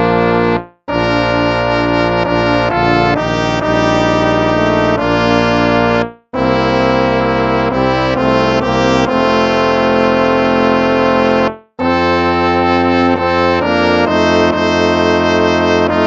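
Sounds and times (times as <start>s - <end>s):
brass chords: 0.0s - 16.0s.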